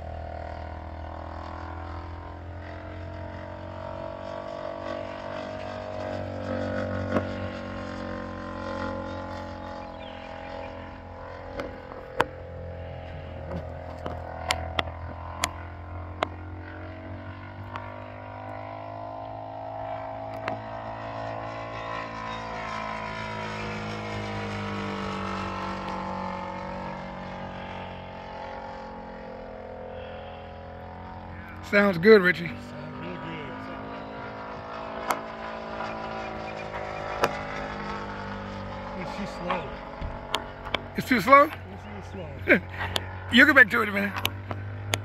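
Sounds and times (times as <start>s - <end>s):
model airplane motor droning: 0.0s - 45.0s.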